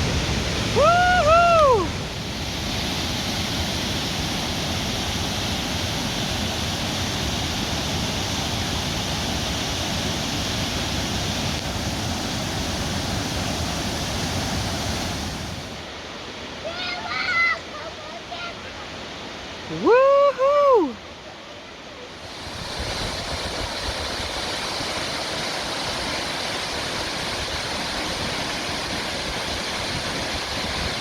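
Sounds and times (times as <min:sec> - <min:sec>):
waterfall roaring: 0:00.0 - 0:21.0, 0:21.7 - 0:31.0.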